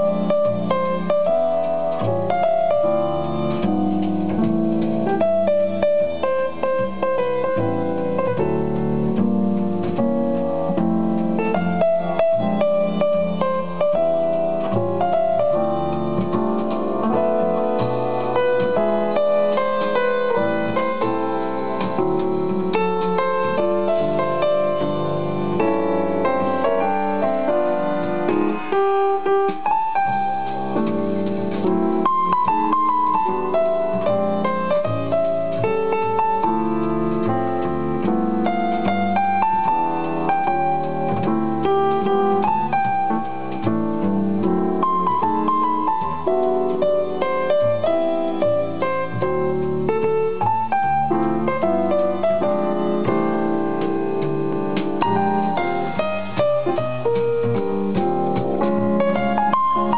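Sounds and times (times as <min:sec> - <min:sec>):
piano music through loudspeakers: 0:00.0 - 0:59.9.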